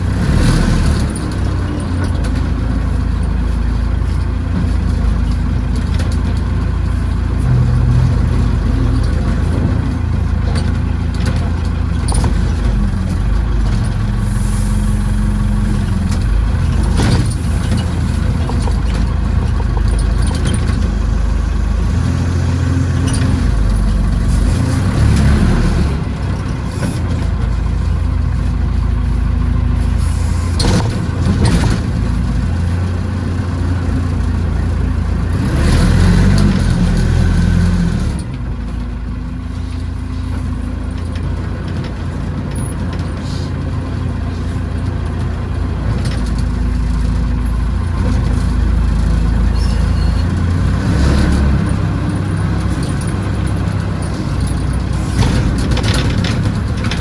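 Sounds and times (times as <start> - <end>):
backhoe engine drone: 0.0 - 57.0.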